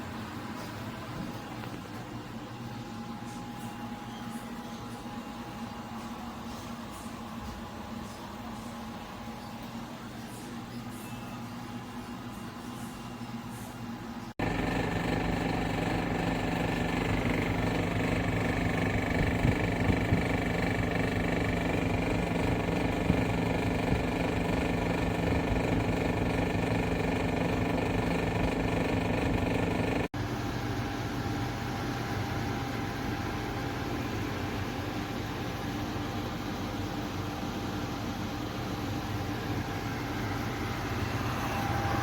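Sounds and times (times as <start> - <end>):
portable air conditioner humming: 0.0 - 42.0.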